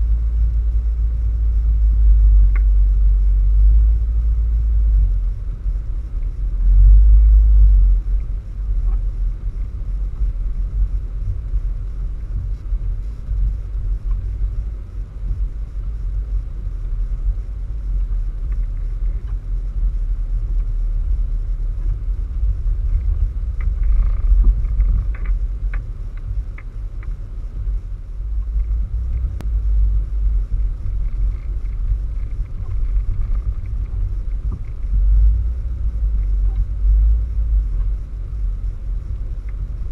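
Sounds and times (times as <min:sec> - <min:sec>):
faint ticks: 0:00.0 - 0:39.9
wind buffeting microphone: 0:00.0 - 0:39.9.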